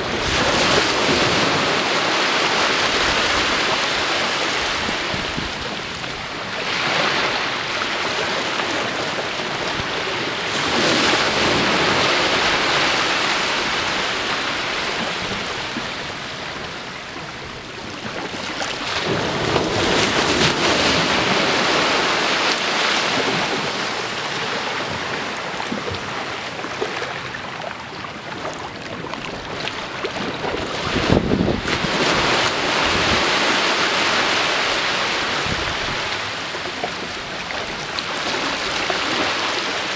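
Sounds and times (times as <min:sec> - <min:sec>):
waves washing up a beach: 0:00.0 - 0:39.9.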